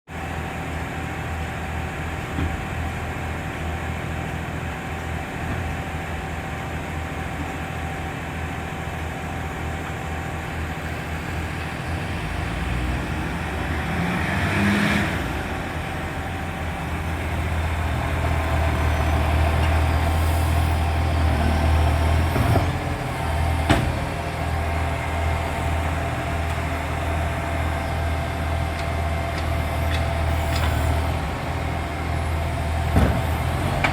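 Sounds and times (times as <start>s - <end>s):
diesel engine with exhaust leak: 0.1s - 33.9s.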